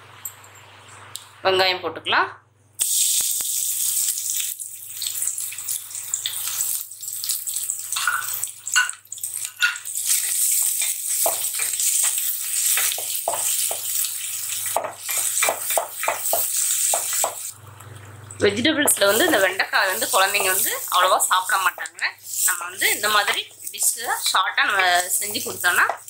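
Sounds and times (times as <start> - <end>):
onions sizzling in oil: 2.8 - 17.6, 18.8 - 26.0.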